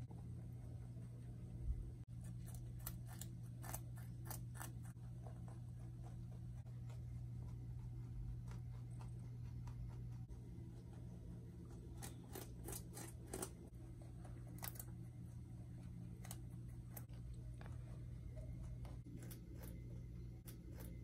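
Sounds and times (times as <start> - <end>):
rabbit chewing hay: 0.0 - 21.0.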